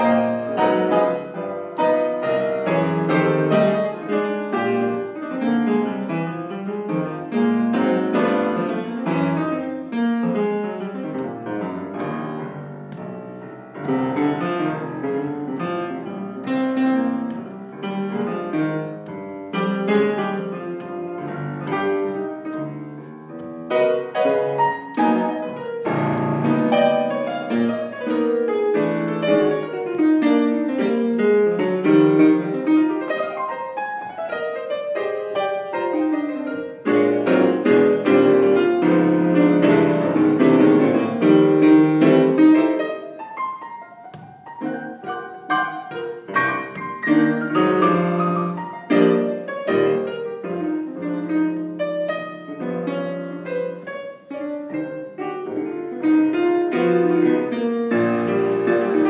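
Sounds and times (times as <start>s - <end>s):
piano piece: 0.0s - 59.0s.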